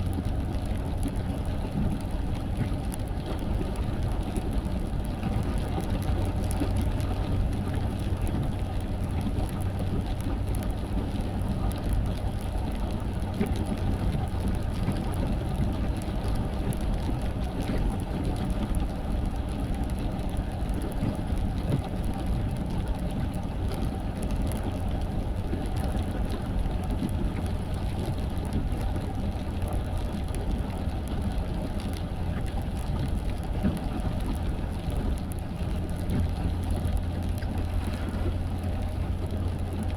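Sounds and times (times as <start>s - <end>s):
car engine and tyres on wet road: 0.0s - 39.9s
faint rain patter: 0.0s - 39.9s.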